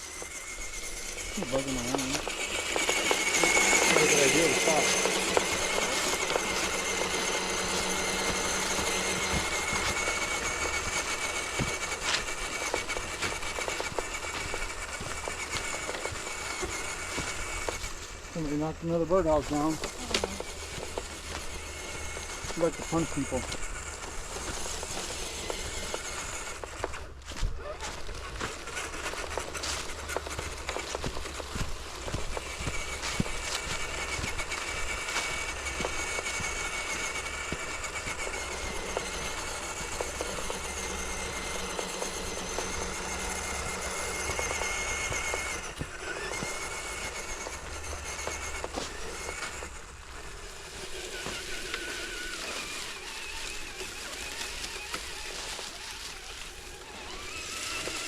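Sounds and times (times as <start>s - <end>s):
electric motor and gears whining: 0.0s - 58.0s
leaves and twigs crackling: 0.0s - 58.0s.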